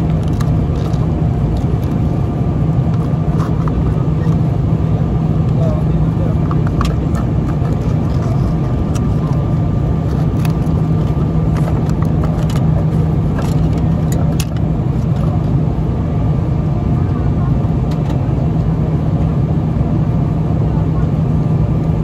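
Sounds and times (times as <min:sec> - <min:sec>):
airliner cabin drone: 0:00.0 - 0:22.0.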